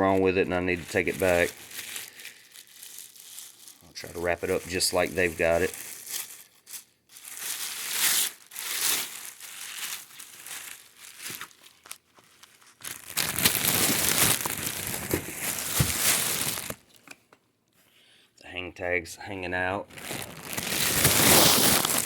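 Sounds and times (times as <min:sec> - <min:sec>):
plastic packaging crinkling: 0:00.0 - 0:17.2, 0:19.9 - 0:22.0.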